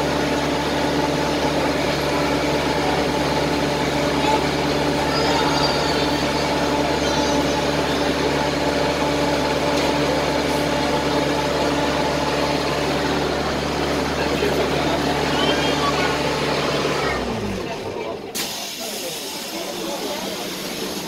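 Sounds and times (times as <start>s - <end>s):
bus engine hum: 0.0s - 21.0s
noisy background: 0.0s - 21.0s.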